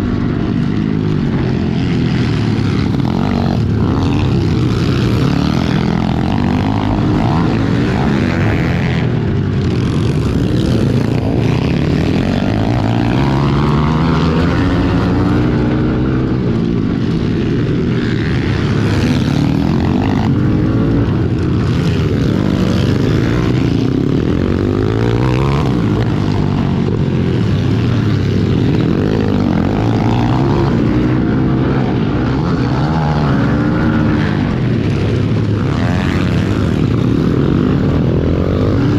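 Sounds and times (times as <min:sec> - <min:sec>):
pit bike engines revving: 0:00.0 - 0:38.9.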